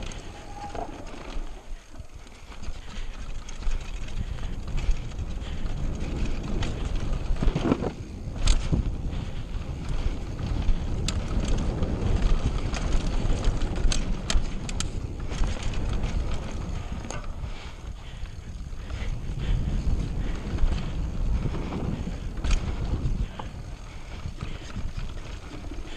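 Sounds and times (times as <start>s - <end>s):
bike rattling over bumps: 0.0s - 25.9s
tyres rolling on dirt: 0.0s - 25.9s
wind noise on microphone: 0.0s - 25.9s.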